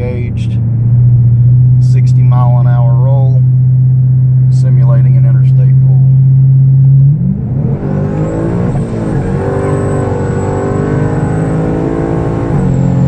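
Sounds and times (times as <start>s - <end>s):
car engine at full throttle: 0.0s - 13.0s
turbo whine: 0.0s - 13.0s.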